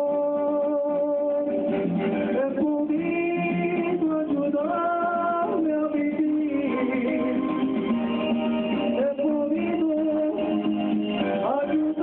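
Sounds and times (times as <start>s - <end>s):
man singing into a microphone: 0.0s - 8.0s, 8.8s - 12.0s
ballad backing track: 0.0s - 12.0s.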